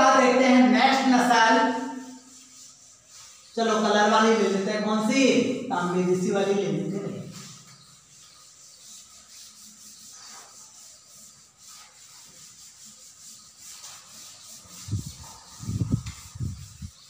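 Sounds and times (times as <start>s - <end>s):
cloth wiping a chalkboard: 0.0s - 17.0s.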